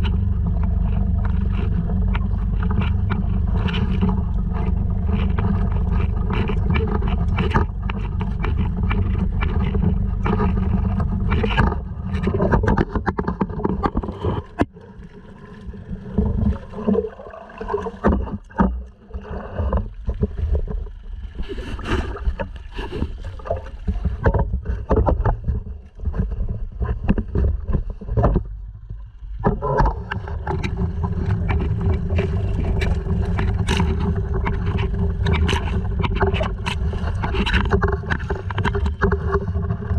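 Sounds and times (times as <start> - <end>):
outboard motor running: 0.0 - 39.9
water splashing along hull: 0.0 - 39.9.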